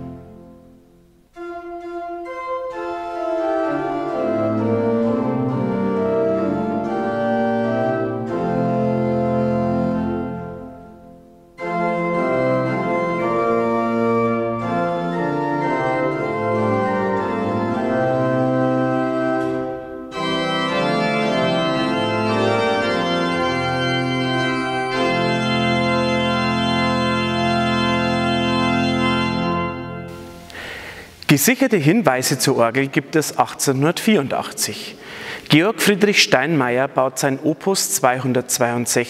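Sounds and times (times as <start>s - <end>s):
pipe organ sustained chords: 0.0s - 39.0s.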